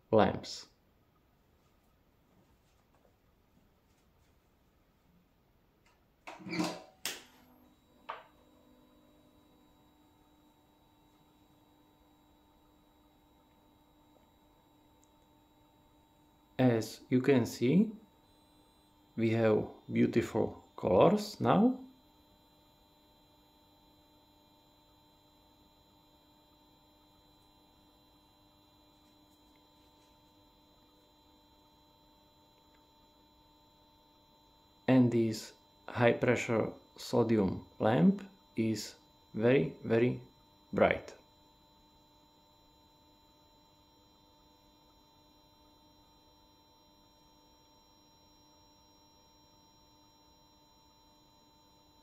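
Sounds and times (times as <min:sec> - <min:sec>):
faint electrical hum: 0:00.0 - 0:52.0.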